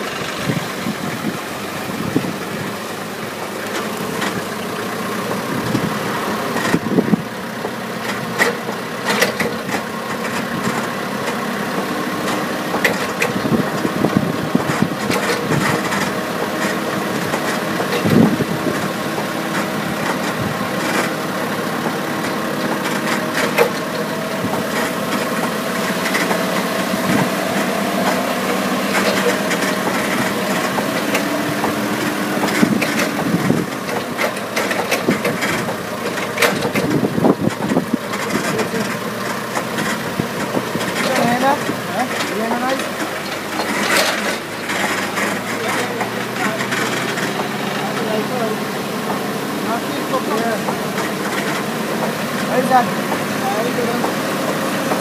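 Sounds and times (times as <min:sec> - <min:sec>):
truck engine running: 0:00.0 - 0:55.0
metal rattles and clunks: 0:00.1 - 0:55.0.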